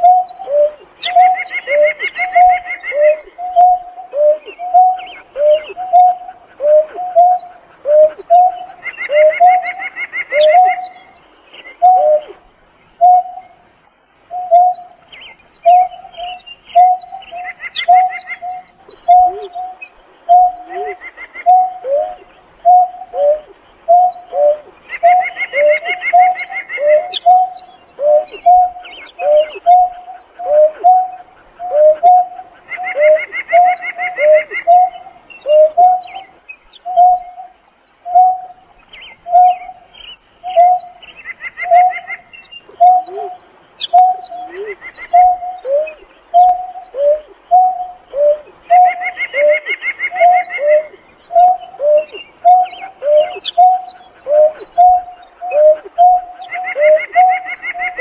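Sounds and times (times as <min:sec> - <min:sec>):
bird hooting: 0:00.0 - 0:13.6, 0:15.7 - 0:58.0.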